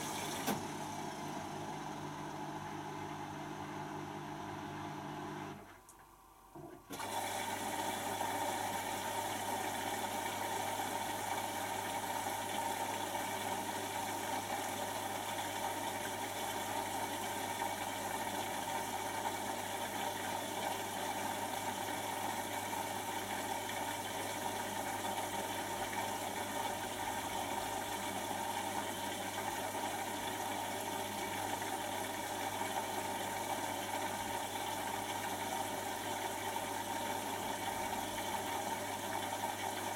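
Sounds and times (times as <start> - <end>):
drain pump humming: 0.0 - 3.8, 6.6 - 39.9
water rushing through pump: 6.9 - 39.9.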